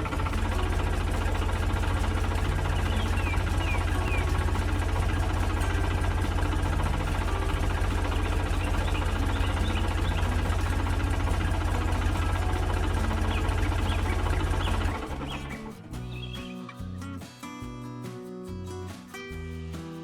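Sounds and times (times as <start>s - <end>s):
heavy diesel engine throbbing: 0.0s - 16.6s.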